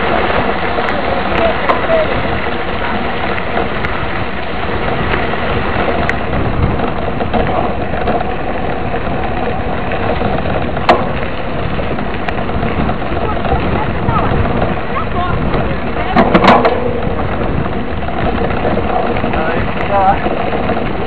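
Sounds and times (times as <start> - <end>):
bike rattles and clicks: 0.0 - 21.0
tyres rolling on gravel: 0.0 - 21.0
wind on microphone: 0.0 - 21.0.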